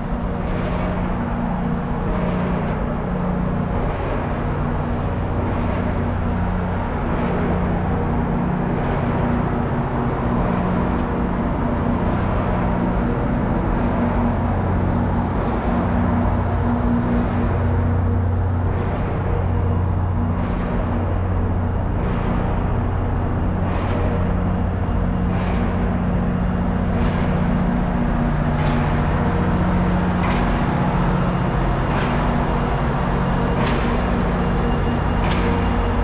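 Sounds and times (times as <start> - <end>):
train hum and rumble: 0.0 - 36.0.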